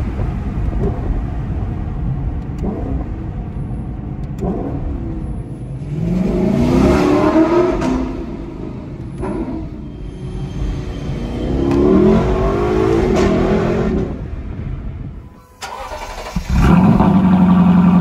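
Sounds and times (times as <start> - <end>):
car engine revving: 0.0 - 14.7, 15.6 - 18.0.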